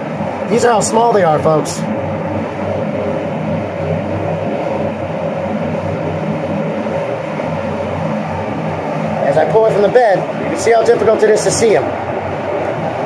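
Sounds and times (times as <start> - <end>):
constant low hum: 0.0 - 13.0
fans whirring: 0.0 - 13.0.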